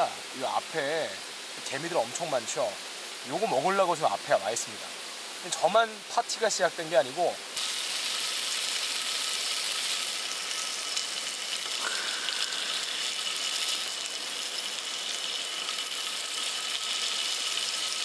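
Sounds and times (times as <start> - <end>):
chicken sizzling on a grill: 0.0 - 18.0.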